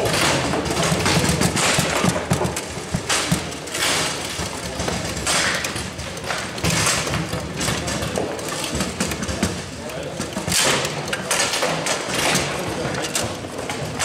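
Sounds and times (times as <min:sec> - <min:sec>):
table football rods clacking: 0:00.0 - 0:14.0.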